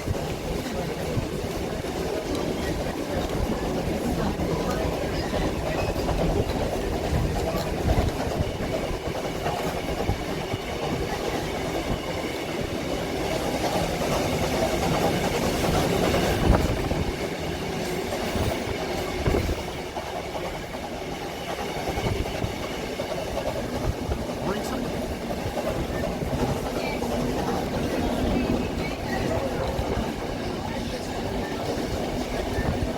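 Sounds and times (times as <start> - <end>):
train jolt: 0.0 - 32.9
train wheels clicking on rails: 0.0 - 32.9.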